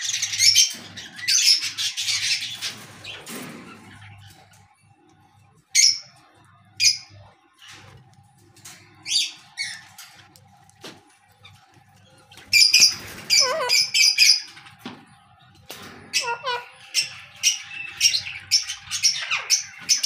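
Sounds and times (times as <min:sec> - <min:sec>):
parrots chattering and screeching: 0:00.0 - 0:10.6, 0:11.2 - 0:14.9, 0:15.8 - 0:20.0.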